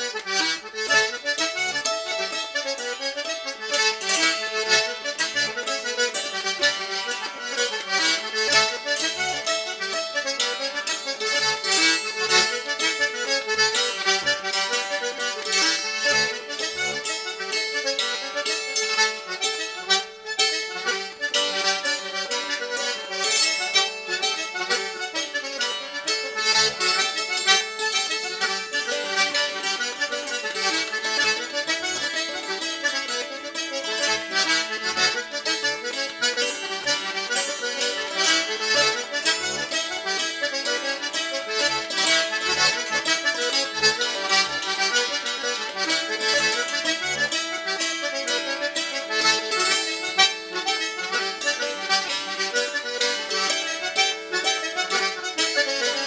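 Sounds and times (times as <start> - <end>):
button accordion dance tune: 0.0 - 56.0.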